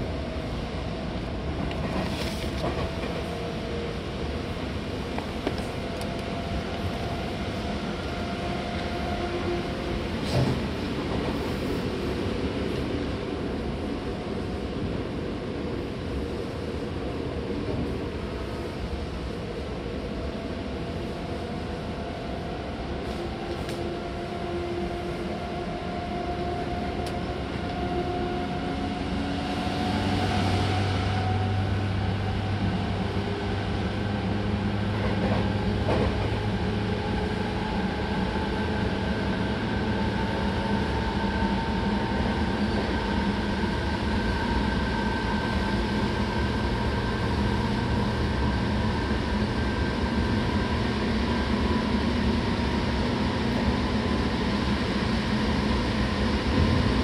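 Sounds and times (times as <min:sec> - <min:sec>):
train rolling noise: 0:00.0 - 0:57.0.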